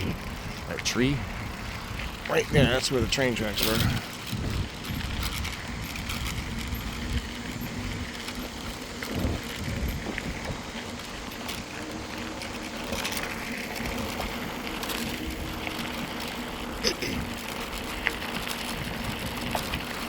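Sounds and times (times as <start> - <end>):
bike tyres rolling: 0.0 - 20.0.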